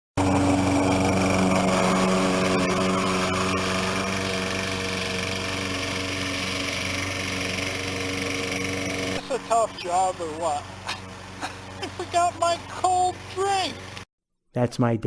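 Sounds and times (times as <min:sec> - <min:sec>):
lawn mower engine running: 0:00.2 - 0:14.0.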